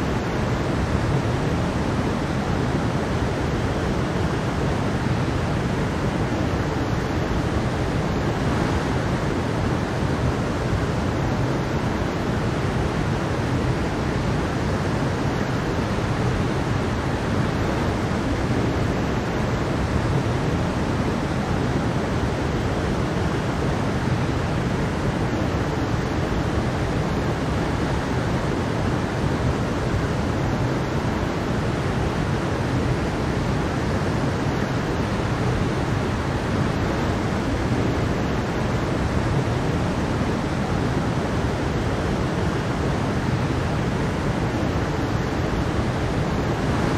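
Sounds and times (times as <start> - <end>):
water rushing and splashing: 0.0 - 46.9.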